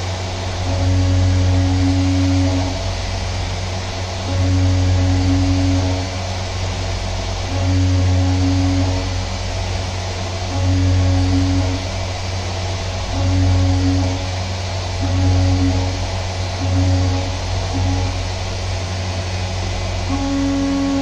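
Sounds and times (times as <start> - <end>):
milling spindle droning hum: 0.0 - 21.0.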